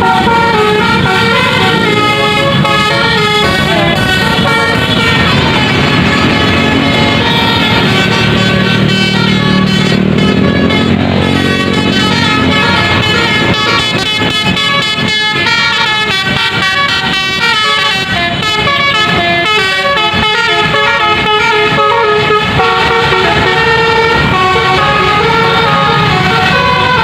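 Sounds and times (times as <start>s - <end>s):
musical air horn melody: 0.0s - 27.0s
traffic noise: 0.0s - 27.0s.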